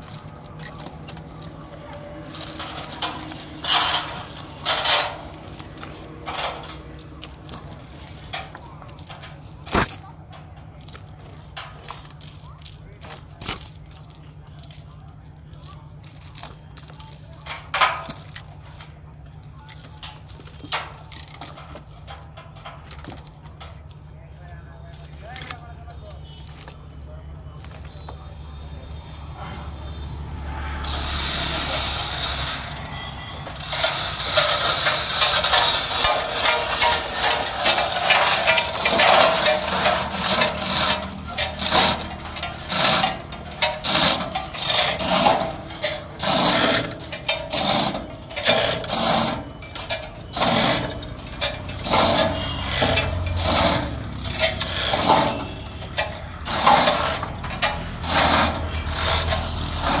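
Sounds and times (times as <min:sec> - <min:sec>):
chain rattling through hoist: 0:00.0 - 0:24.1, 0:30.8 - 1:00.0.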